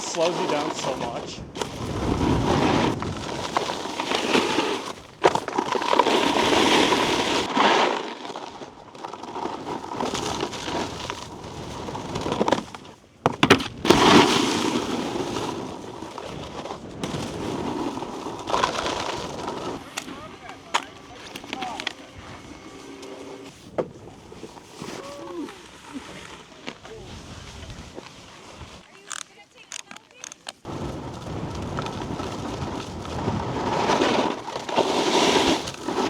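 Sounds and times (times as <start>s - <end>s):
snowboard scraping over icy snow: 0.0s - 28.9s, 30.7s - 36.0s.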